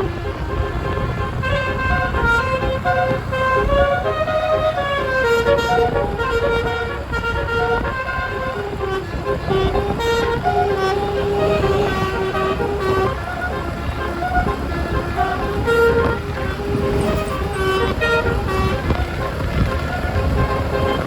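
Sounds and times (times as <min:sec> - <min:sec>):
air horn playing a melody: 0:00.0 - 0:21.0
steady low rumble: 0:00.0 - 0:21.0.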